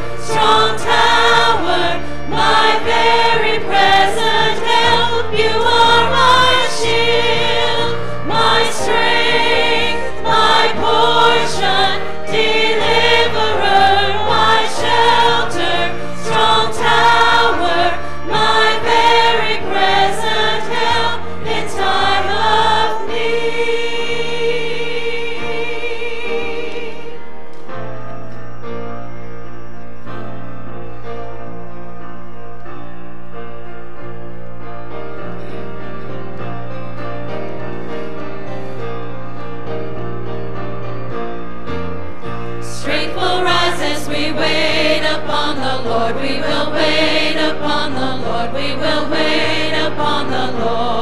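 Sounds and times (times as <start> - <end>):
choir singing: 0.0 - 28.1, 37.2 - 51.0
keyboard playing: 0.0 - 51.0.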